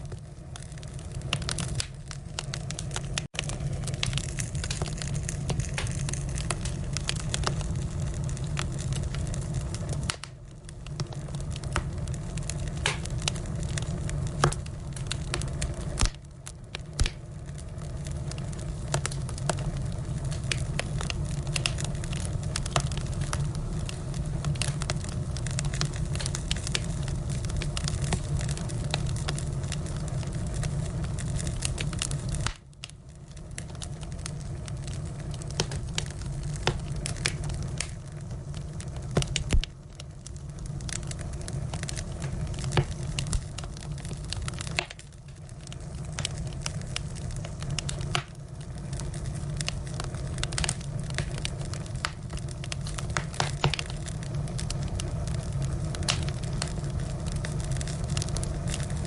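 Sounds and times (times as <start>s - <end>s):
firewood crackling and popping: 0.0s - 59.0s
steady low rumble of fire: 0.0s - 59.0s.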